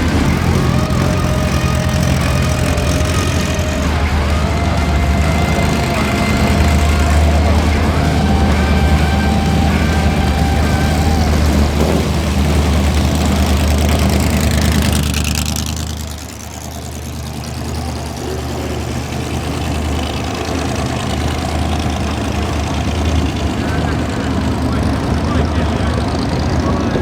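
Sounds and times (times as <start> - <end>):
car engines running: 0.0 - 27.0.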